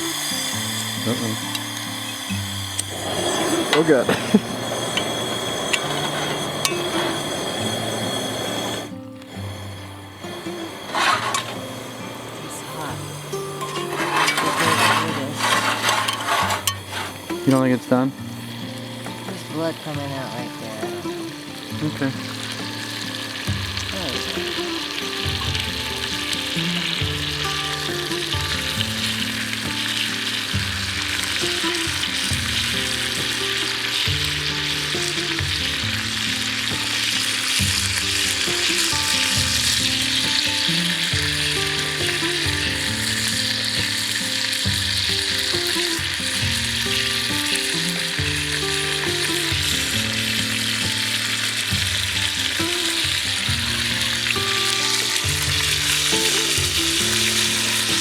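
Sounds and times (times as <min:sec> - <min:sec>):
background music with low notes: 0:00.0 - 0:58.0
meat sizzling in skillet: 0:00.0 - 0:58.0.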